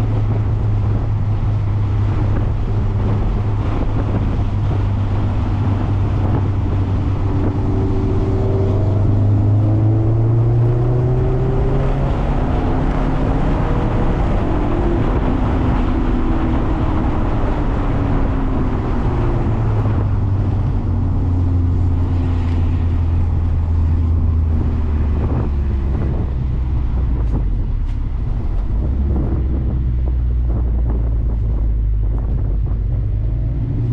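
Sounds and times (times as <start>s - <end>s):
car engine revving: 0.0s - 33.9s
wind and wet road hiss: 0.0s - 33.9s.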